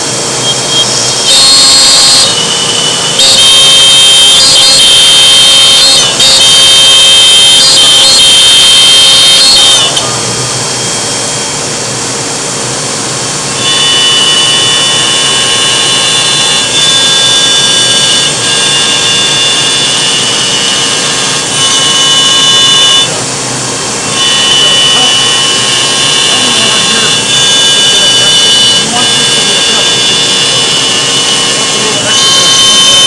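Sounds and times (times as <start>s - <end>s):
router spindle cutting with whine: 0.0s - 33.0s.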